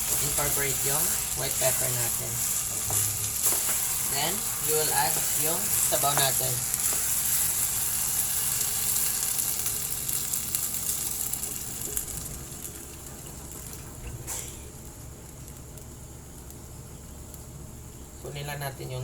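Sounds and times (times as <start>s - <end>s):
food sizzling in a pot: 0.0s - 16.5s.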